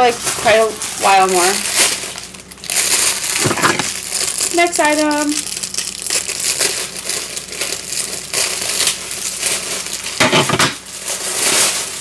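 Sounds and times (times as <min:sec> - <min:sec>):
plastic bag crinkling: 0:00.0 - 0:10.2, 0:10.8 - 0:12.0.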